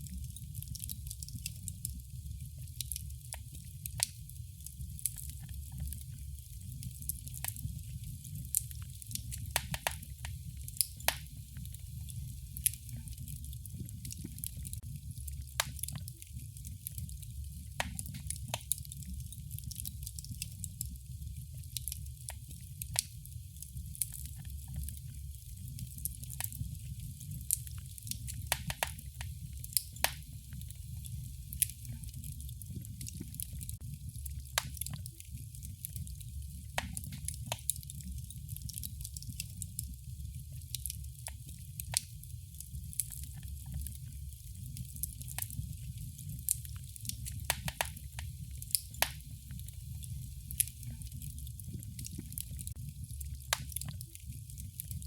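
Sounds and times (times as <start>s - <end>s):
fire pops and snaps: 0.0s - 55.0s
low rumble of flames: 0.0s - 55.0s.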